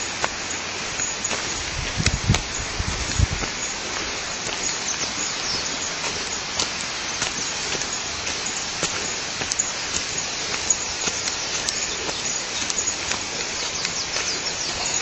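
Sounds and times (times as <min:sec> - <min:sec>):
water pattering and splashing: 0:00.0 - 0:15.0.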